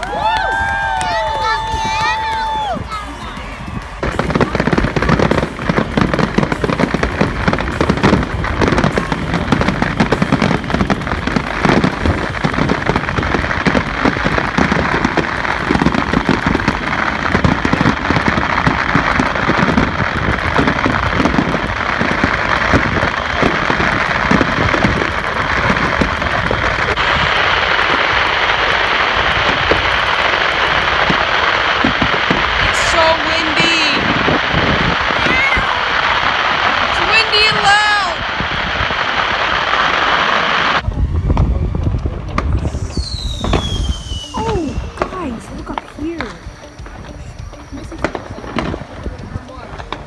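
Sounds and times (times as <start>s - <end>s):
fireworks bangs and crackling: 0.0s - 50.0s.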